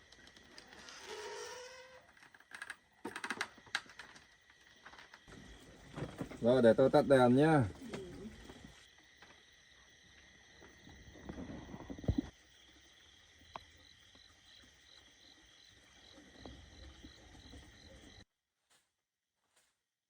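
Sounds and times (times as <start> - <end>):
insect chirping: 0.0 - 18.2.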